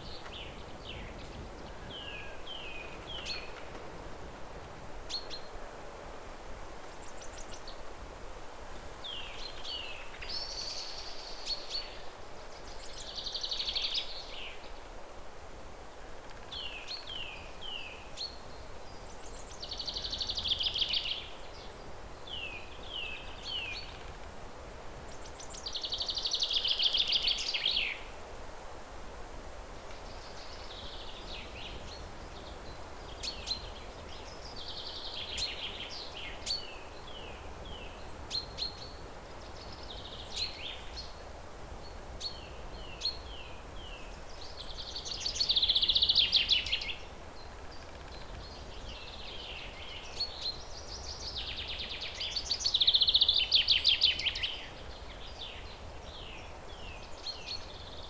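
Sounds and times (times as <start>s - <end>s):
songbirds singing: 0.0s - 5.7s, 6.6s - 8.0s, 8.8s - 14.9s, 15.9s - 28.2s, 29.8s - 58.0s
outdoor background hiss: 0.0s - 58.0s.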